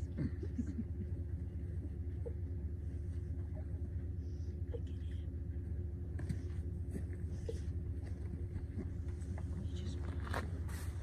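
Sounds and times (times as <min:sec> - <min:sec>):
faint even hum: 0:00.0 - 0:11.0
vehicle engine idling: 0:00.0 - 0:11.0.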